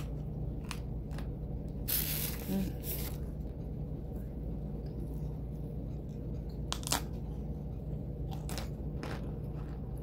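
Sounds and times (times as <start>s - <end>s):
crunchy chewing: 0.0s - 3.3s, 4.9s - 10.0s
steady low hum: 0.0s - 10.0s.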